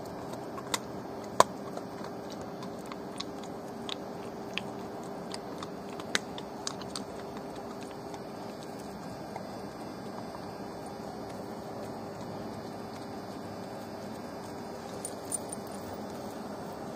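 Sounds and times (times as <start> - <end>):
dog gnawing bones: 0.0 - 16.7.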